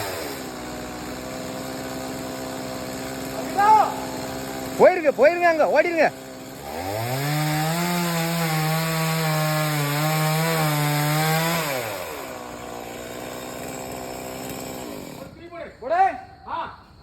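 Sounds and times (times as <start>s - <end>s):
chainsaw cutting wood: 0.0s - 15.4s.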